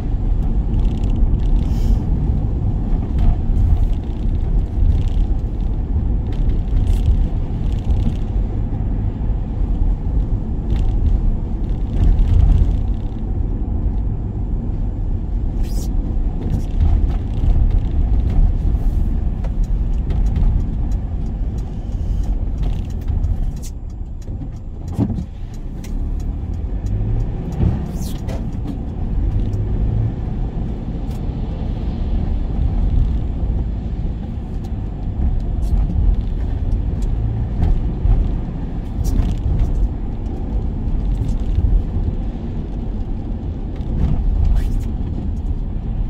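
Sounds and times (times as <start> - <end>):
van engine and road rumble: 0.0 - 46.0.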